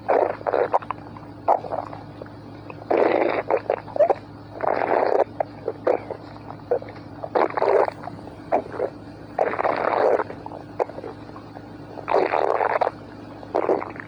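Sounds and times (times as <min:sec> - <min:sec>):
stomach growling and gurgling: 0:00.0 - 0:14.0
stomach pops and squelches: 0:00.0 - 0:14.0.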